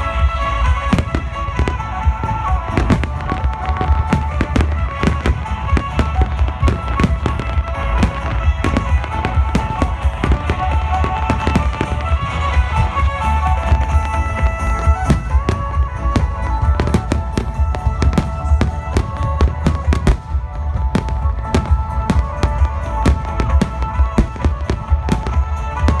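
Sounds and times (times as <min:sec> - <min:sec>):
fireworks bursting: 0:00.0 - 0:26.0
melodic music: 0:00.0 - 0:26.0.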